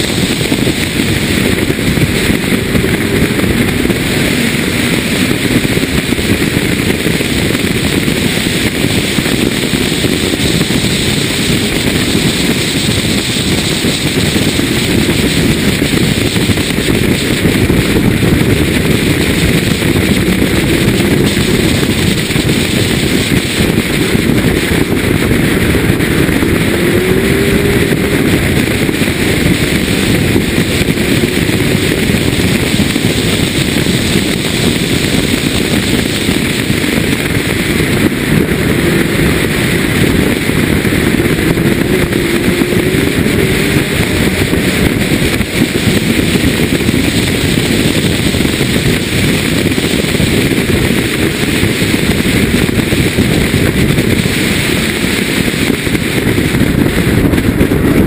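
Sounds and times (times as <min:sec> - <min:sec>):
car engine revving: 0:00.0 - 0:58.0
wind and road noise: 0:00.0 - 0:58.0.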